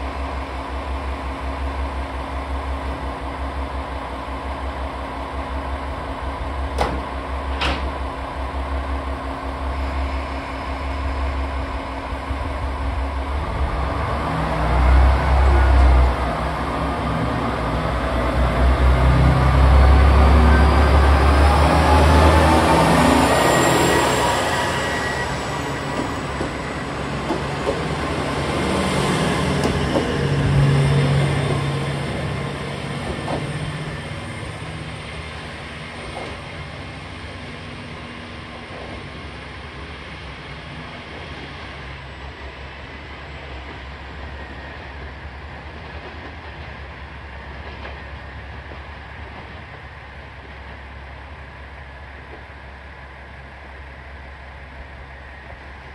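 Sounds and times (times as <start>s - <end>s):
diesel railcar engine: 0.0s - 55.9s.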